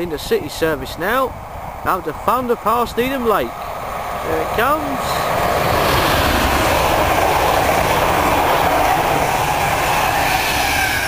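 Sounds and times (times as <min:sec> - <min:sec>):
train passing at speed: 0:00.0 - 0:11.0
wheels rushing on rail: 0:00.0 - 0:11.0.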